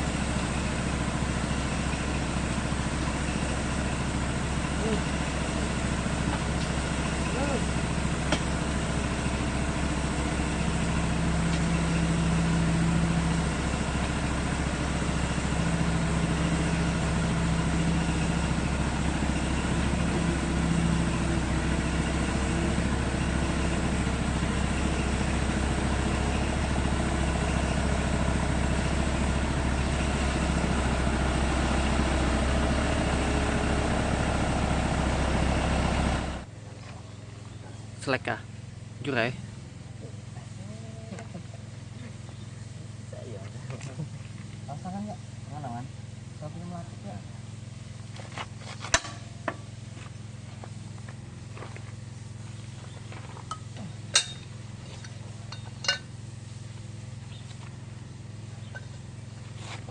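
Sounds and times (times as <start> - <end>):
excavator diesel engine idling: 0.0 - 59.9.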